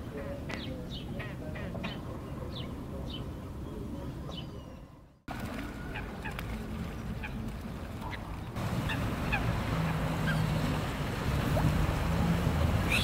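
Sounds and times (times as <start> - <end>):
harbour rumble and hum: 0.0 - 13.0
water birds calling: 0.0 - 13.0.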